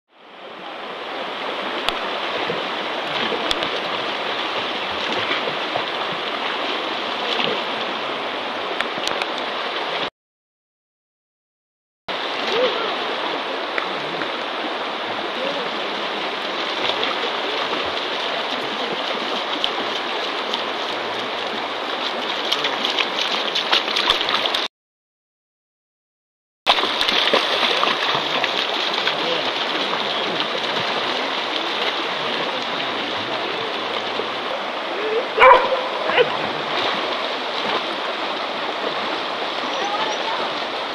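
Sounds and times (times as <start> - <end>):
river water rushing: 0.2 - 10.1, 12.1 - 24.7, 26.7 - 40.9
dogs splashing through water: 1.3 - 10.0, 12.2 - 24.7, 26.7 - 40.9.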